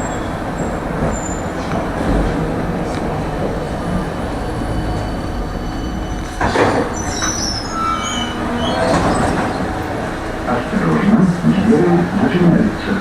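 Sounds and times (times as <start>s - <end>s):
high wheel squeal: 0.0s - 11.9s
tram clatter: 0.0s - 13.0s
tram rumbling on rails: 0.0s - 13.0s.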